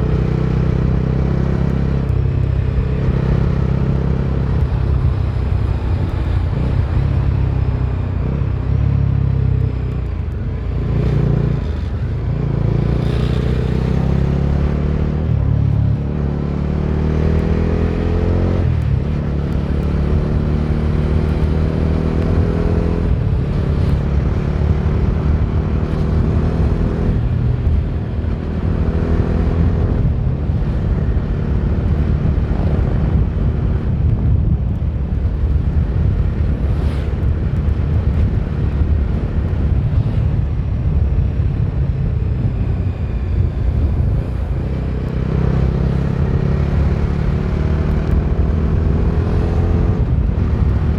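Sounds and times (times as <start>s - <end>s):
motorcycle engine accelerating: 0.0s - 50.9s
road and wind noise: 0.0s - 50.9s.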